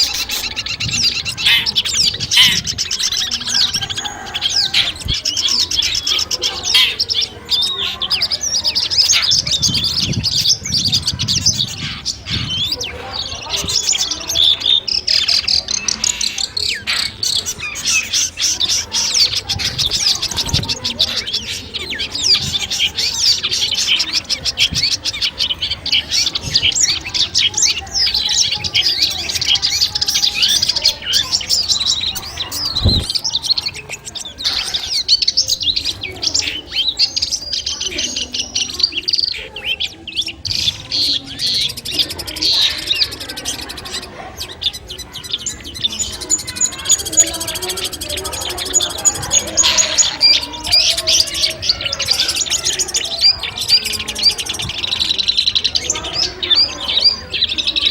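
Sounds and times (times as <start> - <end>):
bird singing chattering phrases: 0.0 - 57.9.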